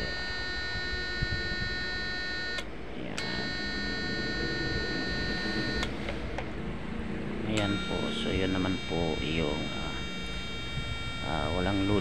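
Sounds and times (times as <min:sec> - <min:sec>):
inverter electronic whine: 0:00.0 - 0:12.0.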